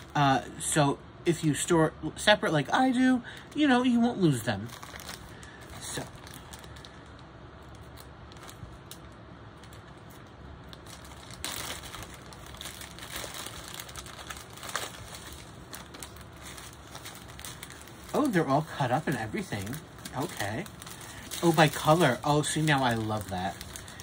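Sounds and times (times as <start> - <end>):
plastic bags crinkling: 0.0 - 0.4, 2.9 - 24.0.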